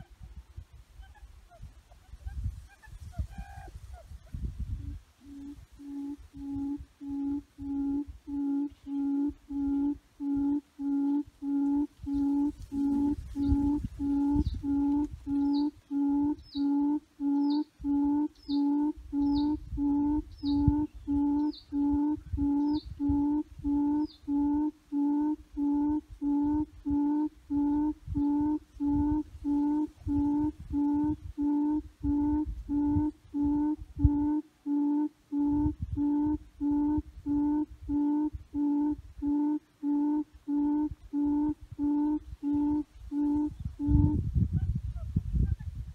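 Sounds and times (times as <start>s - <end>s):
low hooting bird call: 4.8s - 44.2s.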